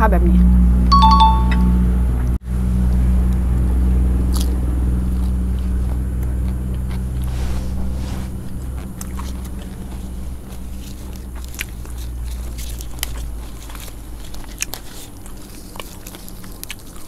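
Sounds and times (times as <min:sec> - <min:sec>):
steady low hum: 0:00.0 - 0:17.0
person chewing crisp food: 0:03.3 - 0:17.0.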